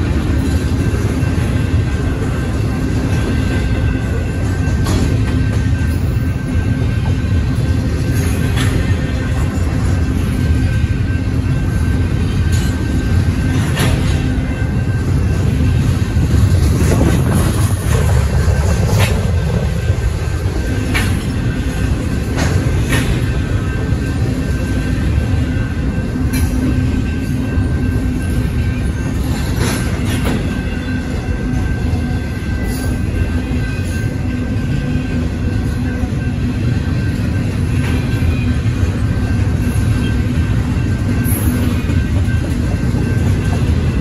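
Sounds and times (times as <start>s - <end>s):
wheels clanking on rail joints: 0.0s - 44.0s.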